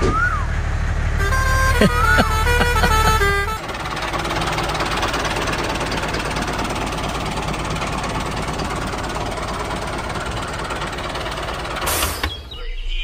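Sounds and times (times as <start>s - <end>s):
tractor engine running: 0.4s - 12.3s.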